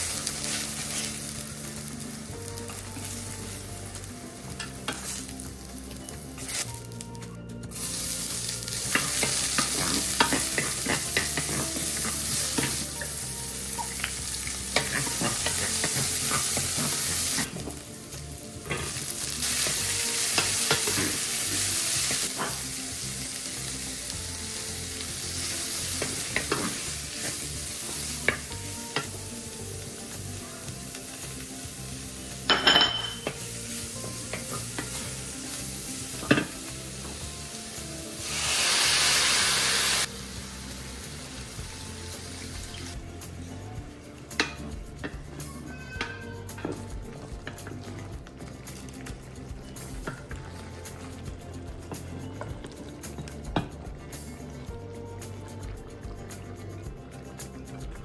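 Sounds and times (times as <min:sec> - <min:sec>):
food sizzling in a frying pan: 0:00.0 - 0:54.6.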